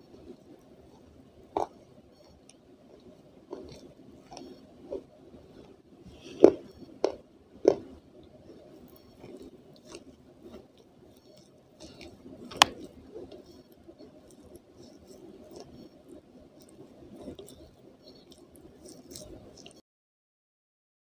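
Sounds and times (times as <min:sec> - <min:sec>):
wet chewing: 0:00.1 - 0:19.8.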